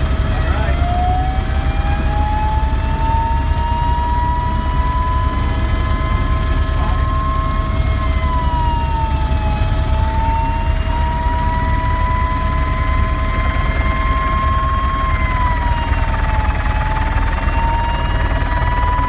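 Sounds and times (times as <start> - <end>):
helicopter rotor and engine drone: 0.0 - 19.0
high whines: 2.0 - 19.0.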